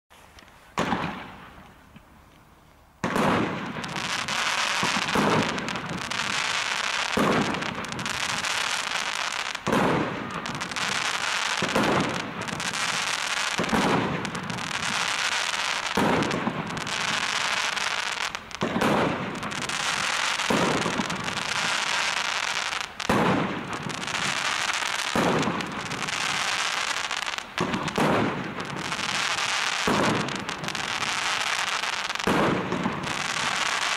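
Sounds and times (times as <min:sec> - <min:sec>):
crackling firework bursts: 0:00.1 - 0:33.9
firework shots launching: 0:00.8 - 0:01.6, 0:03.0 - 0:33.9.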